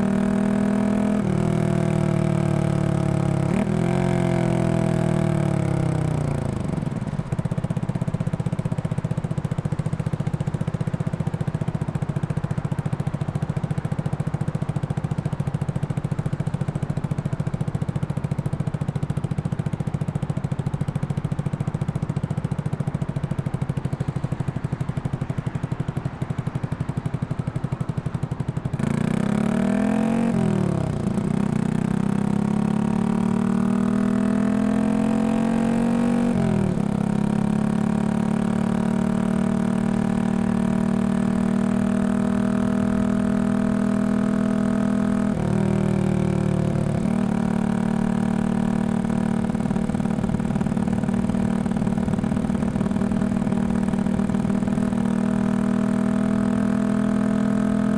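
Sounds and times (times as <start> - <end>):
motorcycle engine: 0.0 - 14.8, 20.7 - 57.9.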